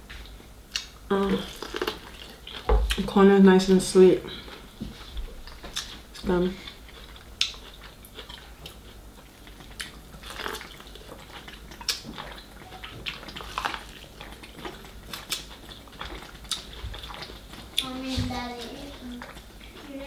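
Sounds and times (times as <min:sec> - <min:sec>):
close-up chewing and biting: 0:00.7 - 0:03.1, 0:04.3 - 0:17.9, 0:18.9 - 0:19.9.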